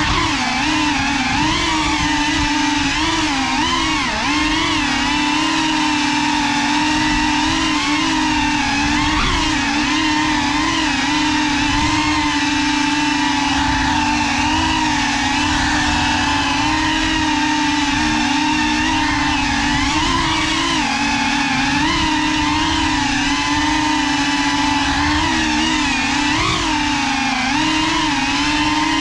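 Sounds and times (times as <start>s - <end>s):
drone motors and propellers whining: 0.0s - 29.0s.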